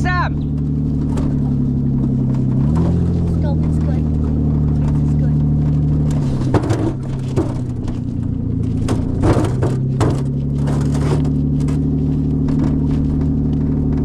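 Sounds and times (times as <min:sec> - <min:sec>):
car engine running: 0:00.0 - 0:14.0
rocks knocking and crunching: 0:00.4 - 0:14.0.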